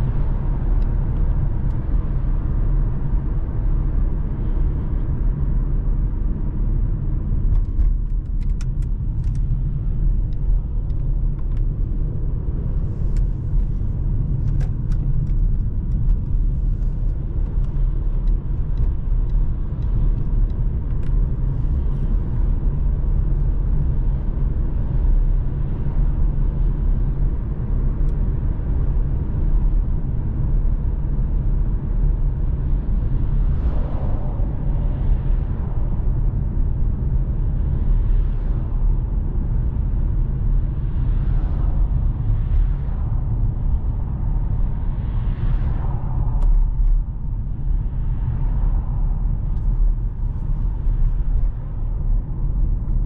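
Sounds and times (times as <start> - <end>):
car engine and road noise rumble: 0.0 - 53.0.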